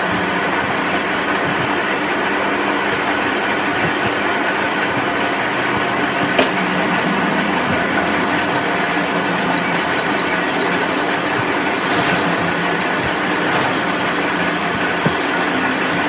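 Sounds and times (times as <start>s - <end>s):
machine running: 0.0s - 16.0s.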